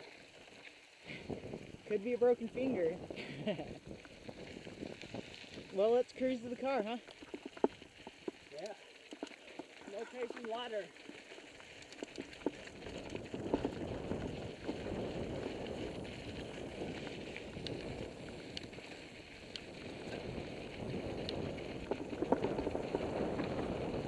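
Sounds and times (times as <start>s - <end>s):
bike rattling: 0.0s - 24.0s
small clicks and ticks: 0.0s - 24.0s
tyres crunching over gravel: 0.1s - 24.0s.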